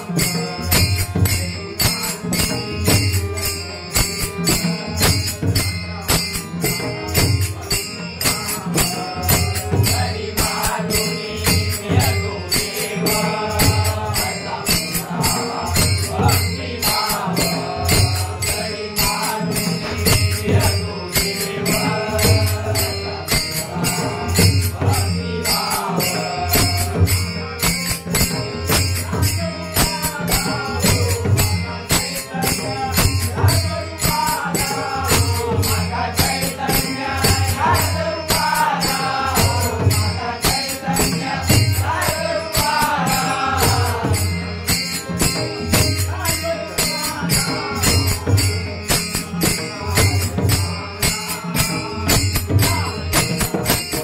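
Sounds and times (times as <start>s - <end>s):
voices singing a chant: 0.0s - 54.0s.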